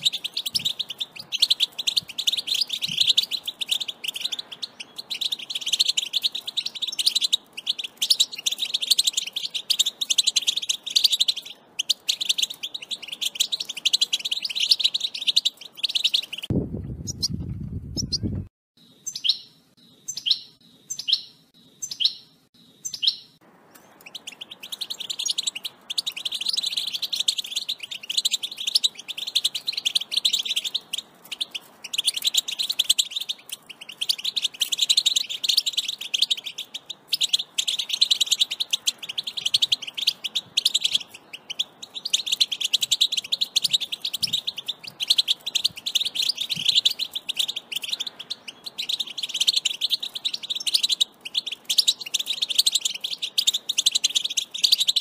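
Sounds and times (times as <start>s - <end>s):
finch tinkling twitter: 0.0s - 16.5s, 18.0s - 55.0s.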